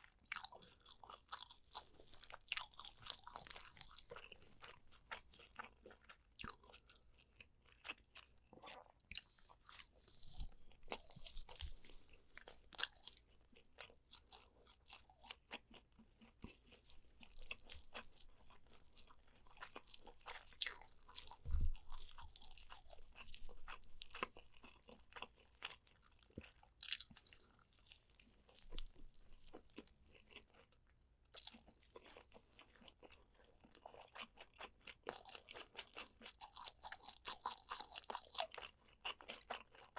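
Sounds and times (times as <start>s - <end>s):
crunchy chewing and biting: 0.1s - 39.9s.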